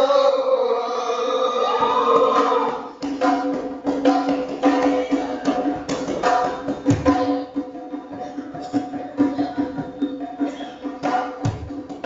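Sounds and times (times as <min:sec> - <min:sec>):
barrel drum played by hand: 0:02.2 - 0:12.0.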